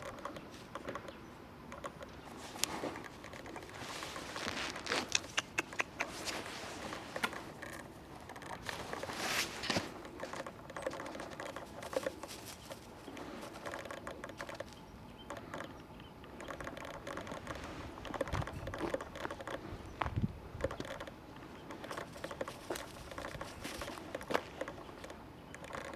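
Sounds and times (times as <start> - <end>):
puppy claws clicking and scratching: 0.0 - 19.7, 20.6 - 25.9.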